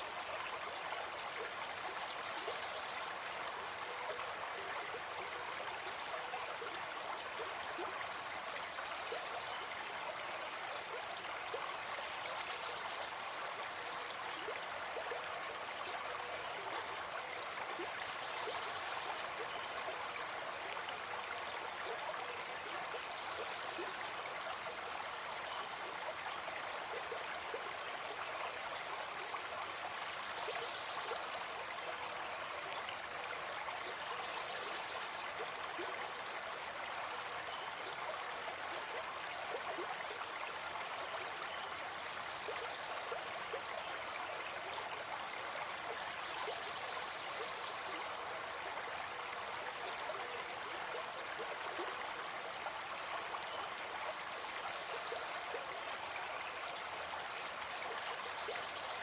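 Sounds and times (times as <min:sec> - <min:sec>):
forest stream flowing: 0:00.0 - 0:59.0.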